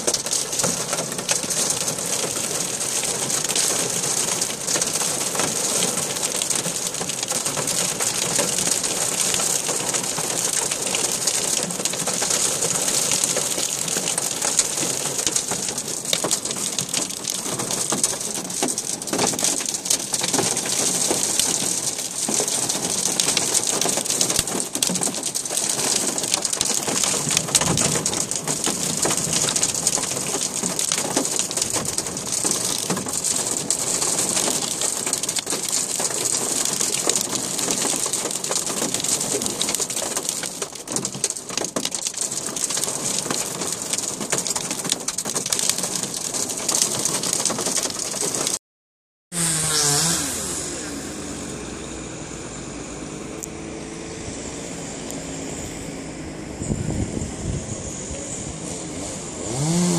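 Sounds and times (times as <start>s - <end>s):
heavy rain on street: 0.0s - 48.6s, 49.3s - 59.9s.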